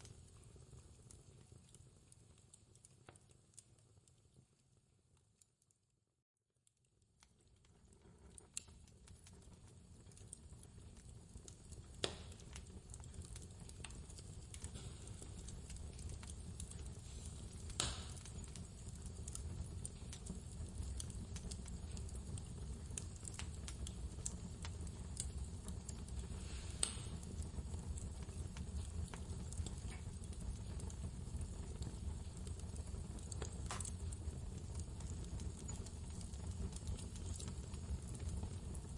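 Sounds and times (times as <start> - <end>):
low fire rumble: 0.0 - 4.6, 7.2 - 38.9
fireplace crackling: 0.0 - 5.7, 6.6 - 38.9.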